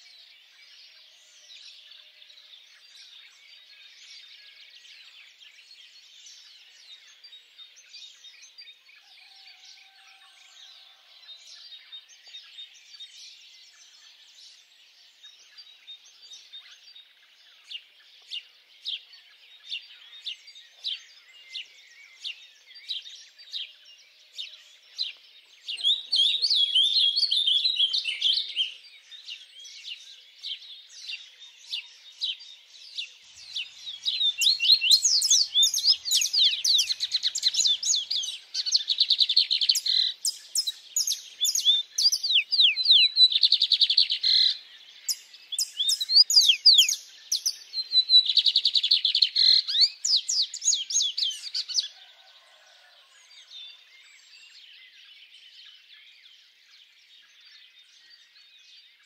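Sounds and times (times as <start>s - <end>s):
songbirds twittering and trilling: 0.0s - 59.0s.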